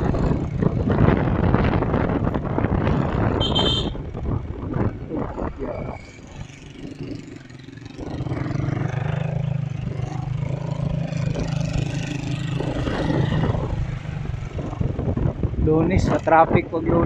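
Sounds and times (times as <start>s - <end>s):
motorcycle engine droning: 0.0s - 15.6s
road noise: 0.0s - 17.0s.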